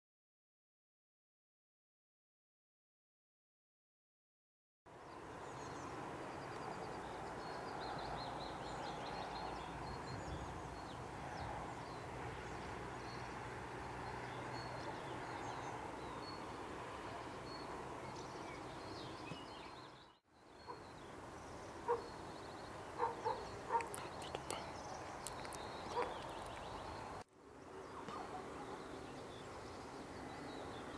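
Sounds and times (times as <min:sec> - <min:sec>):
small birds chirping: 0:05.0 - 0:30.9.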